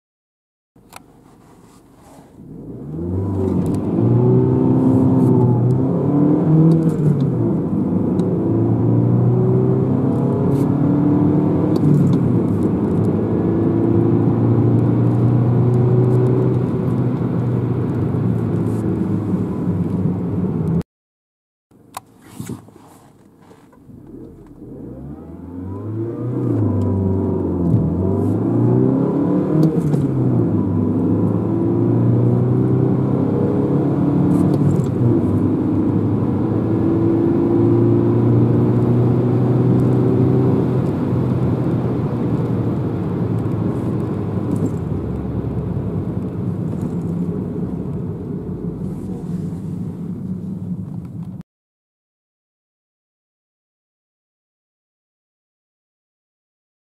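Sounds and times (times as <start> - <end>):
car engine accelerating: 2.4 - 20.8, 22.3 - 51.4.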